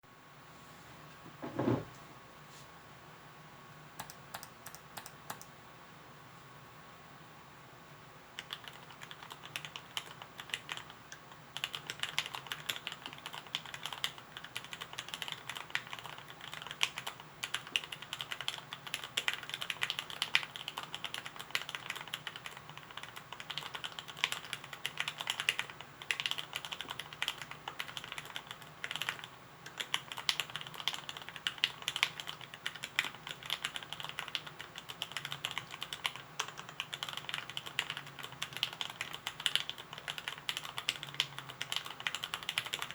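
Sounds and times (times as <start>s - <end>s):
mechanical keyboard typing: 4.0s - 5.5s, 8.4s - 42.9s.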